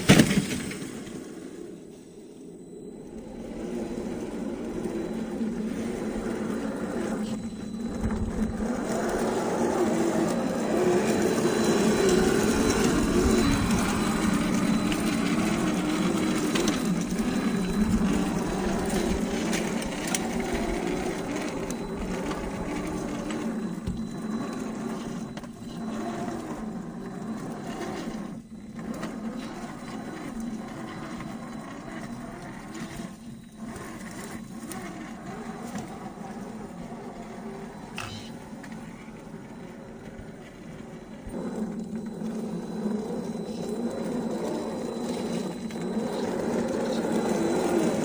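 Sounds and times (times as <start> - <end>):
rc truck motor whirring: 0.0 - 48.0.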